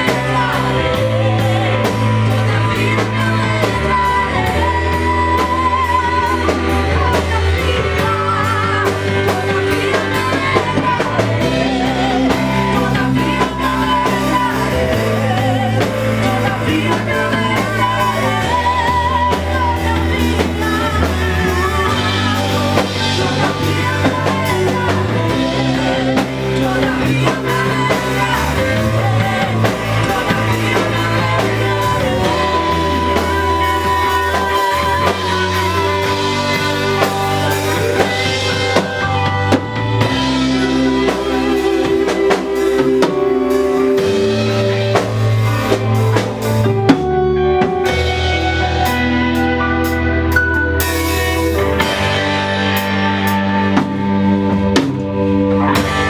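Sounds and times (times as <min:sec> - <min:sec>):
bass line: 0:00.0 - 0:56.0
person singing: 0:00.0 - 0:56.0
worship band playing: 0:00.0 - 0:56.0.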